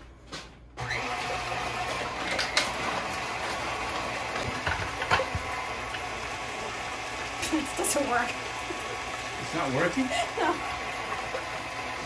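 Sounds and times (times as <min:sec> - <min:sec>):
electric juicer motor running: 0:00.8 - 0:12.0.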